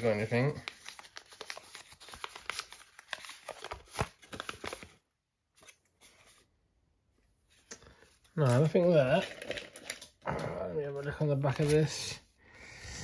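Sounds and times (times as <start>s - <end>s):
paper rustling and crinkling: 0.0s - 6.5s, 7.5s - 10.2s, 10.8s - 12.2s.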